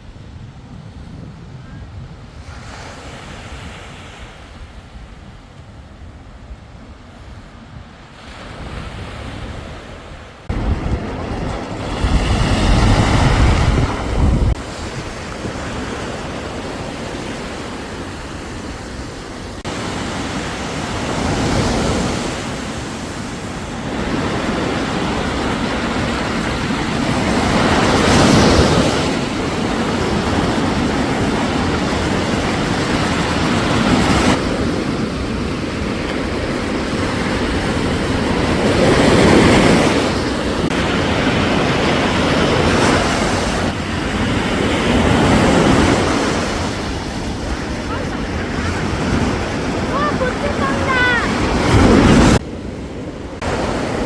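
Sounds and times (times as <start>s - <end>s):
wind buffeting microphone: 0.0s - 54.0s
sea waves breaking on beach: 8.0s - 54.0s.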